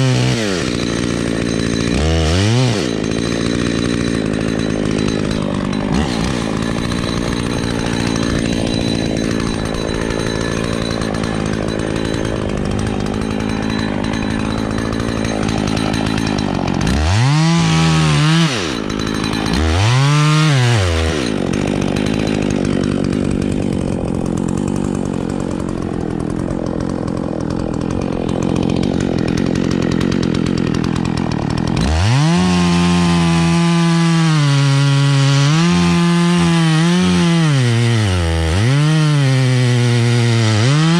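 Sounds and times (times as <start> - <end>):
two-stroke chainsaw revving: 0.0 - 40.9.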